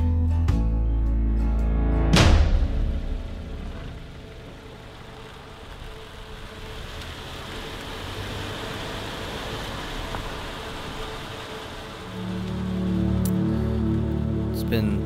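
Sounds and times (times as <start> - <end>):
car tyre and road noise: 2.4 - 15.0.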